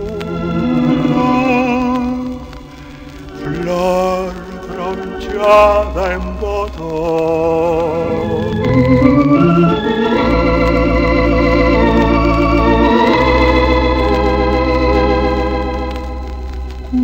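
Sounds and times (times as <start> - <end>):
organ playing sustained chords: 0.0 - 17.0.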